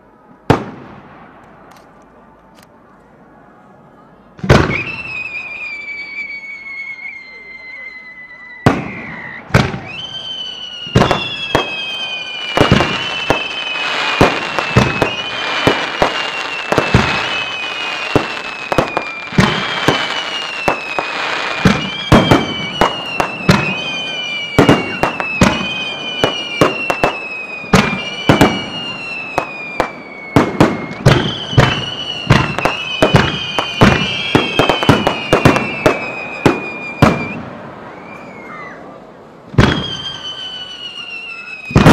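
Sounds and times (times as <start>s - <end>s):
firework bangs: 0.4s - 1.7s, 4.4s - 7.0s, 8.5s - 41.9s
whistling fireworks: 4.4s - 41.9s.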